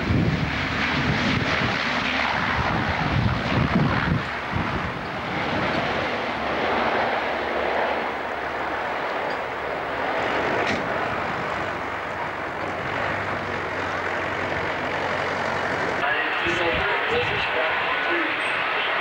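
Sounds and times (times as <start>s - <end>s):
turboprop airplane droning: 0.0s - 19.0s.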